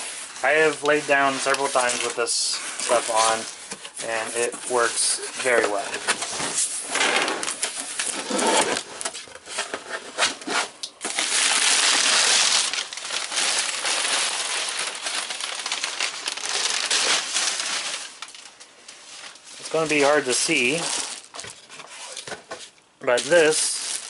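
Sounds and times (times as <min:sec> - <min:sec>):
packing paper crinkling: 0:00.0 - 0:06.7, 0:07.4 - 0:22.4, 0:23.1 - 0:24.0.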